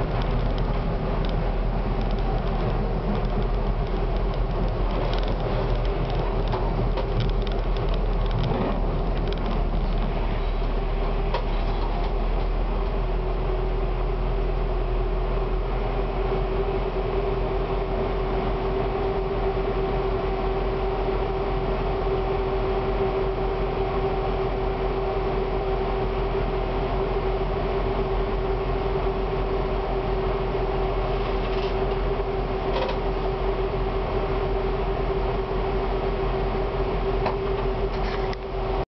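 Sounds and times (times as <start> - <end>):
tram electrical hum: 0.0 - 38.8.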